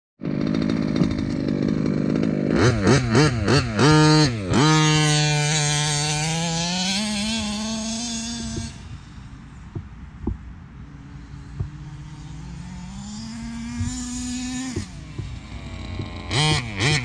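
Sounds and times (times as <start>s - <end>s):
two-stroke engine revving: 0.2s - 17.0s.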